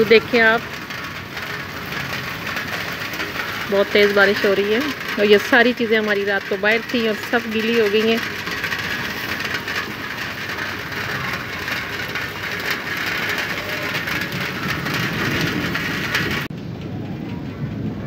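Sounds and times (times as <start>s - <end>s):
heavy rain pouring: 0.0s - 16.5s.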